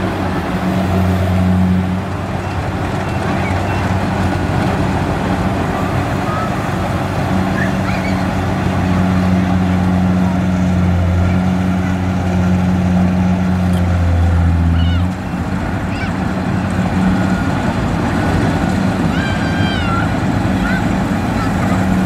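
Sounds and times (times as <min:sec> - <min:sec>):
combine harvester engine running: 0:00.0 - 0:22.0.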